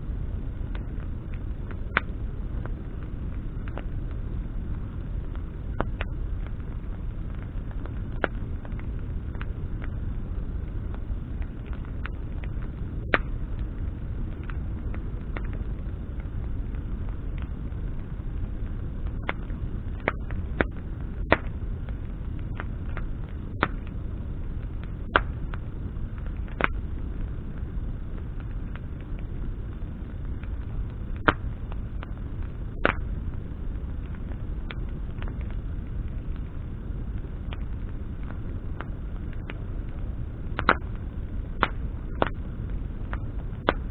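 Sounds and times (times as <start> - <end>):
fire crackles and pops: 0.0 - 43.9
low rush of flames: 0.0 - 43.9.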